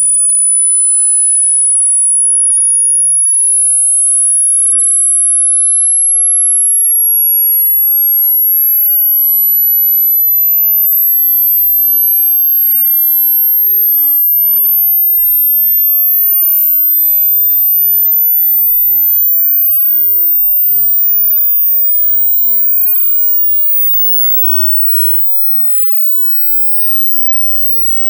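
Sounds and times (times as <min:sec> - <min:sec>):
high-pitched rising sine tone: 0:00.0 - 0:28.0.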